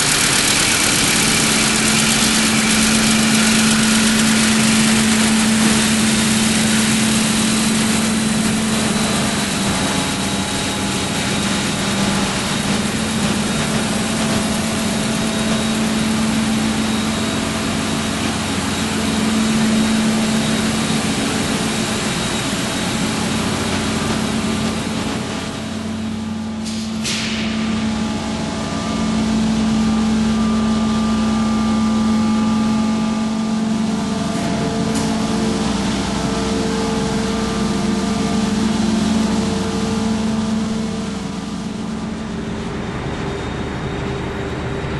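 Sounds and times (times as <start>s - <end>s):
ship engine drone: 0.0s - 44.9s.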